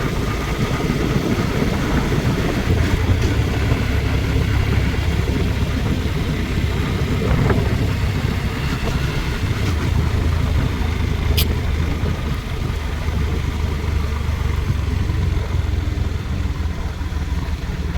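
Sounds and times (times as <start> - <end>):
vehicle engine and road noise: 0.0 - 17.9.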